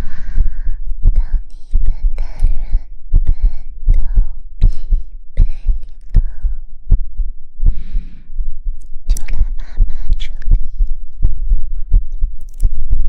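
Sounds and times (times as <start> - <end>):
deep heartbeat-like thumps: 0.0 - 13.0.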